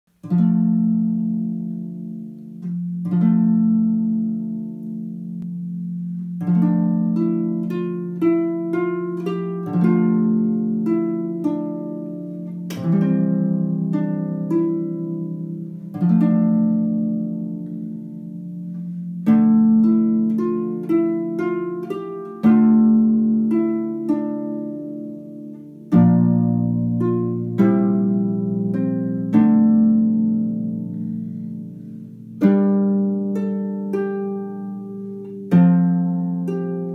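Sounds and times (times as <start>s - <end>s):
solo harp plucked tune: 0.1s - 36.9s.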